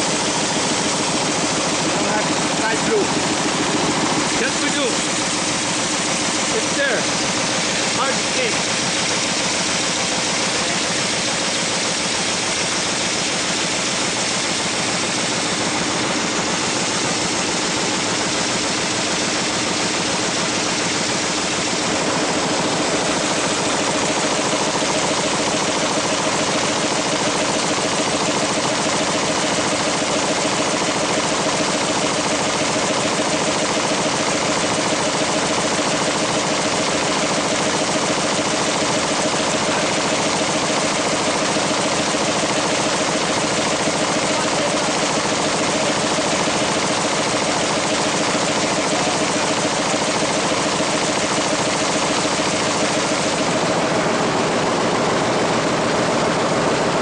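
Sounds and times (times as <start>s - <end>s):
envelope-folding machine clattering: 0.0s - 57.0s.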